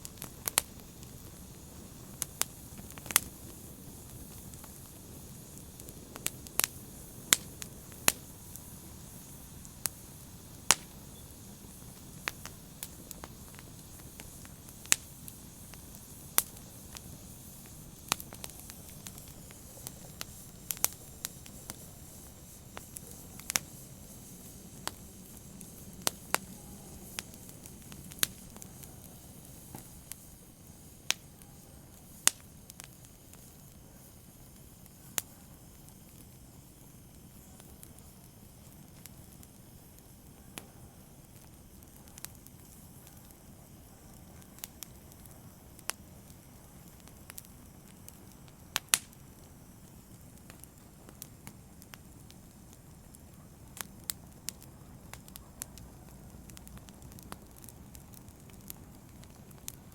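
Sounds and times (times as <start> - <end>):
fire crackling and popping: 0.0 - 59.9
fire hissing: 0.0 - 59.9.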